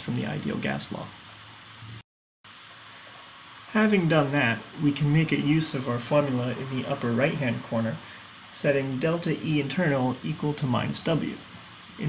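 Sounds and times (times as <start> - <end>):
faint microphone hiss: 0.0 - 12.0.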